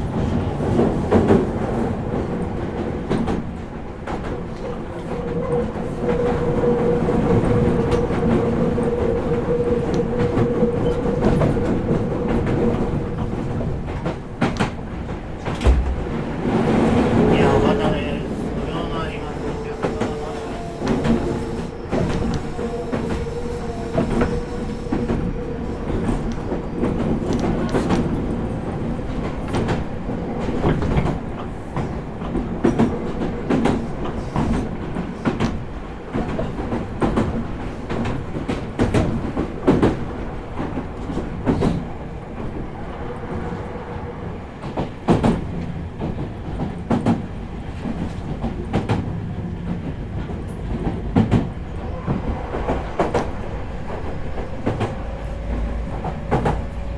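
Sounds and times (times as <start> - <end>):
train rumble: 0.0 - 56.9.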